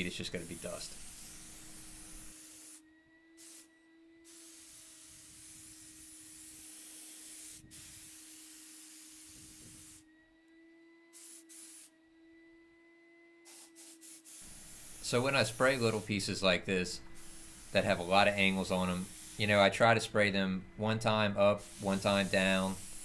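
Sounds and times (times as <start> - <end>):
paint spray gun hissing: 0.0 - 2.8, 3.4 - 10.0, 11.1 - 11.9, 13.5 - 20.1, 21.0 - 23.0.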